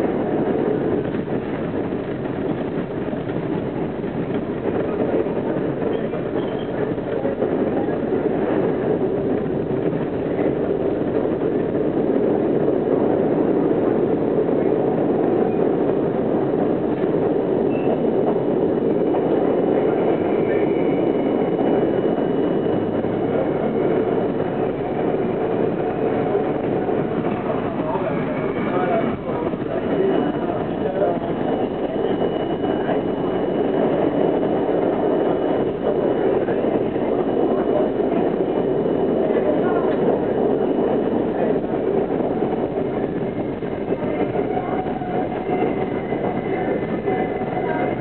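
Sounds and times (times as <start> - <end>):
subway wheels rumbling on rail: 0.0 - 48.0.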